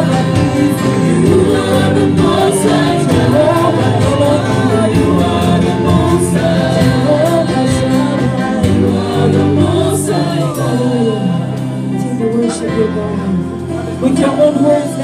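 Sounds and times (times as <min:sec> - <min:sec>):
choir singing gospel song: 0:00.0 - 0:15.0
instrumental accompaniment: 0:00.0 - 0:15.0.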